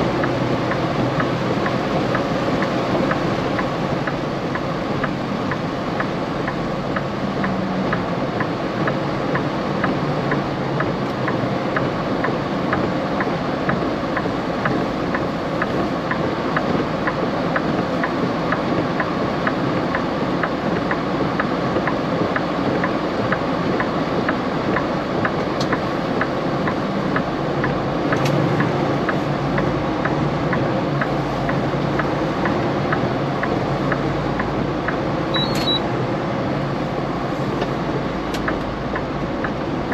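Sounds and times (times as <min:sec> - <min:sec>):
truck road and engine noise: 0:00.0 - 0:39.9.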